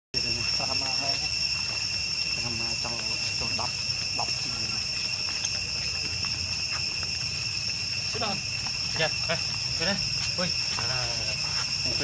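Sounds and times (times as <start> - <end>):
high-pitched insect drone: 0.2 - 12.0.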